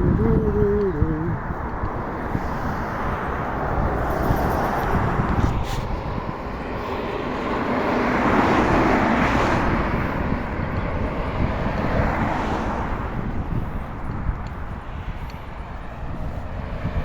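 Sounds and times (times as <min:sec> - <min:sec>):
motor vehicle passing: 0:00.0 - 0:17.0
wind on microphone: 0:00.0 - 0:17.0.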